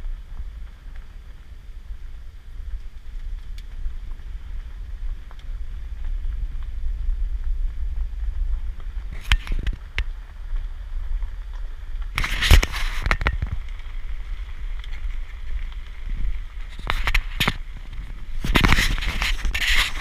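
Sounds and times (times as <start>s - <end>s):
sharp crackling clicks: 0.0s - 20.0s
tyre and road noise: 0.0s - 20.0s
wind rumbling on microphone: 0.0s - 20.0s.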